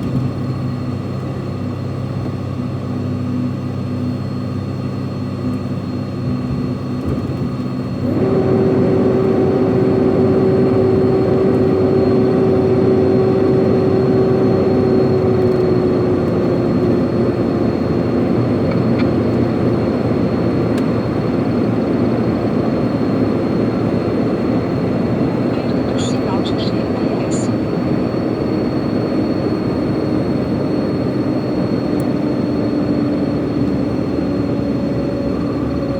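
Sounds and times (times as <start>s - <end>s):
truck engine droning: 4.6s - 35.9s.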